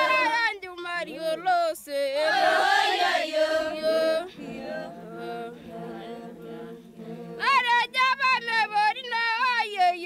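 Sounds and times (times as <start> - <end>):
voices singing held notes: 0.0 - 10.0.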